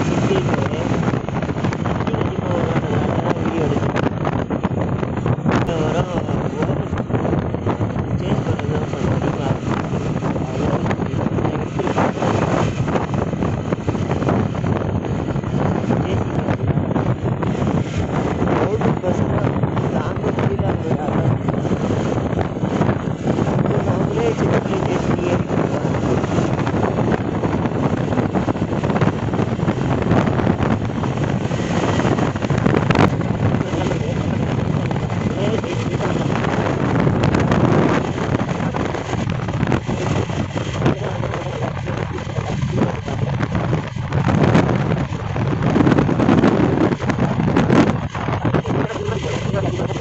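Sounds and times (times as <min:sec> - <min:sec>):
motorcycle engine: 0:00.0 - 0:50.0
road noise: 0:00.0 - 0:50.0
wind buffeting microphone: 0:00.0 - 0:50.0.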